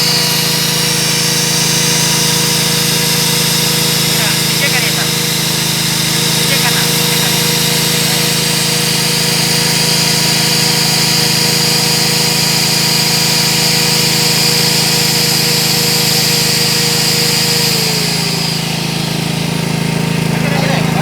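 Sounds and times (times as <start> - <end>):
drilling machine motor running: 0.0 - 21.0.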